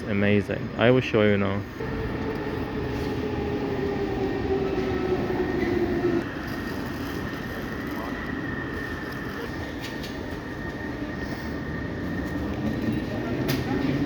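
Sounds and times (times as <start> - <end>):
train rumbling with motor hum: 1.6 - 14.0.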